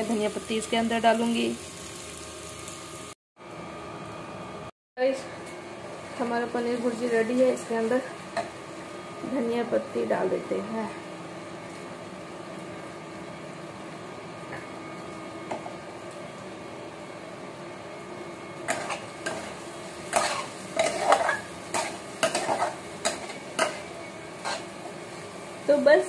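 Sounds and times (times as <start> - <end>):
food frying with steady hiss: 0.0 - 26.0.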